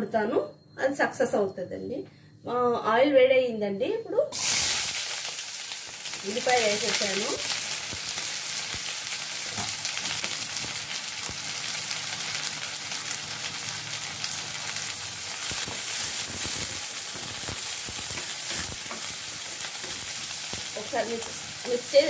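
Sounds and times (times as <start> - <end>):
onions sizzling in hot oil: 4.3 - 22.0.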